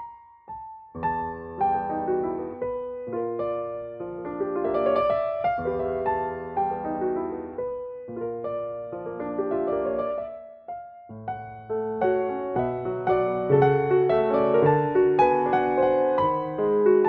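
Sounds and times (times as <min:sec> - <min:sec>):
solo grand piano: 0:00.0 - 0:17.0.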